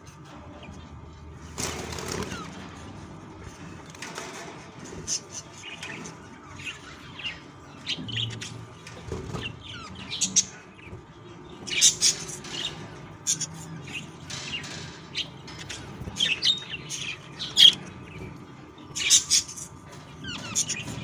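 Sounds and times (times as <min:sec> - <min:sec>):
budgies chirping: 0:00.1 - 0:21.0.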